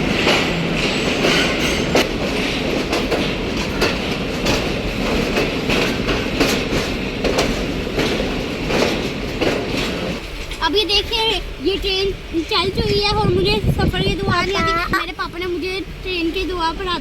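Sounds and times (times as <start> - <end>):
train wheels clattering on rail joints: 0.0 - 16.5
train rumble: 0.0 - 17.0.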